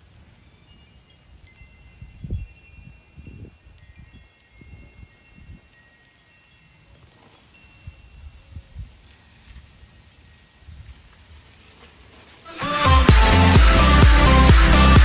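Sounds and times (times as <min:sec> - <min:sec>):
wind chimes ringing: 0:00.0 - 0:12.3.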